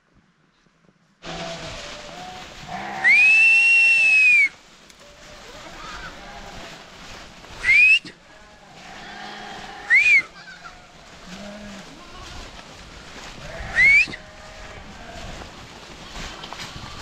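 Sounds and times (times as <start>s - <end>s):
sheep and goats bleating: 1.2s - 15.6s.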